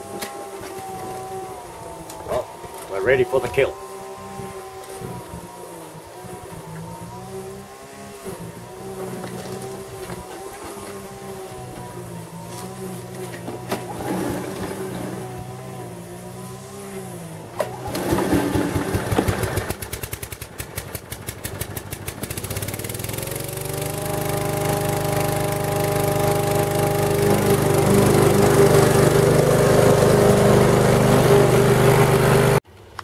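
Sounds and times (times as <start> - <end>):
lawn mower engine running: 0.0 - 32.6
lawn mower pull-start: 0.0 - 33.0.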